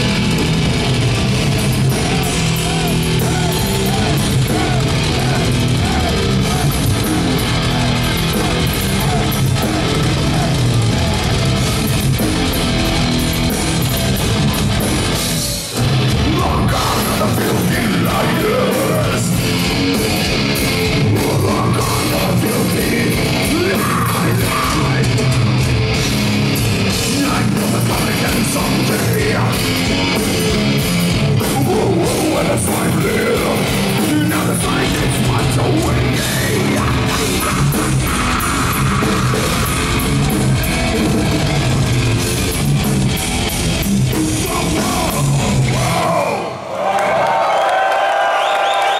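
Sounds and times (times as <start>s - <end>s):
distorted electric guitars: 0.0s - 46.7s
metal vocals: 0.0s - 46.7s
drums: 0.0s - 48.9s.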